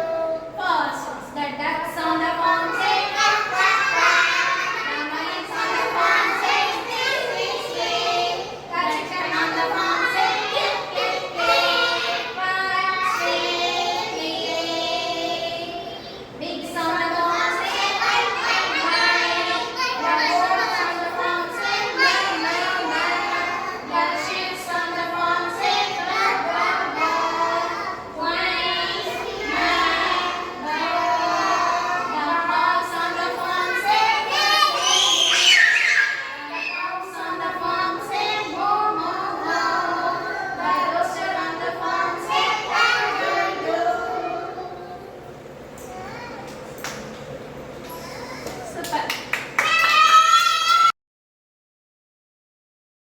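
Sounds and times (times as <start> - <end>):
children singing: 2.2 - 45.2.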